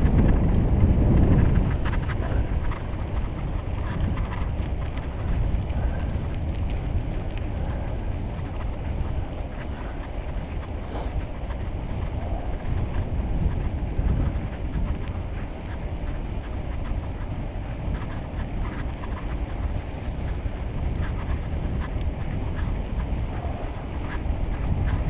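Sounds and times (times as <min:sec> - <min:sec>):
bicycle clicks and rattles: 0:00.0 - 0:25.0
tyres on wet asphalt: 0:00.0 - 0:25.0
wind buffeting microphone: 0:00.0 - 0:25.0.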